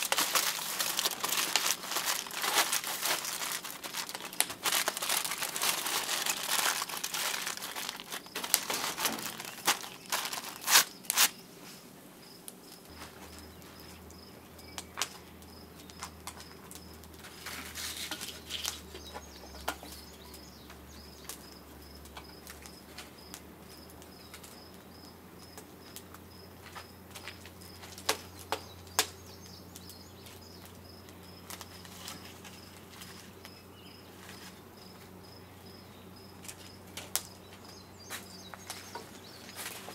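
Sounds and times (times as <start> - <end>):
wood fire crackling: 0.0 - 34.6, 36.4 - 39.9.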